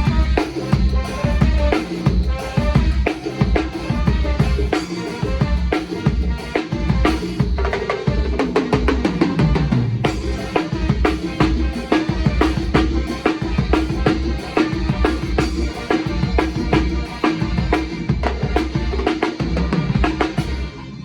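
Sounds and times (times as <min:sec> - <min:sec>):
drum kit groove: 0:00.0 - 0:21.0.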